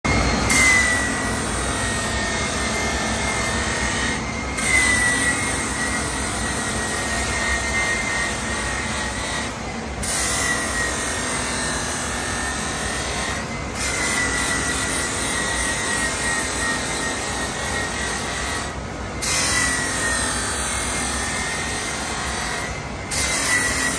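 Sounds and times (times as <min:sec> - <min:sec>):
grinder wheel grinding metal: 0:00.1 - 0:23.9.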